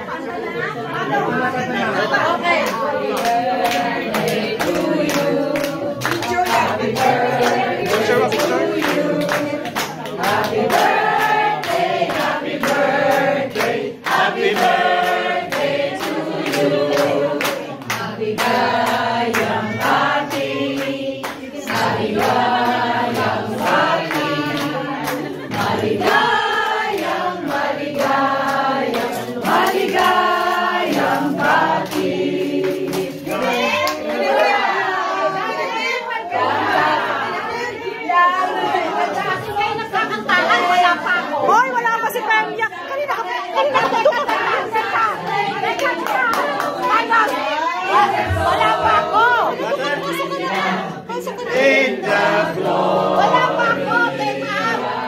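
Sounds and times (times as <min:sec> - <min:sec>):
group of people singing: 0:00.0 - 0:55.0
people clapping along: 0:01.9 - 0:55.0.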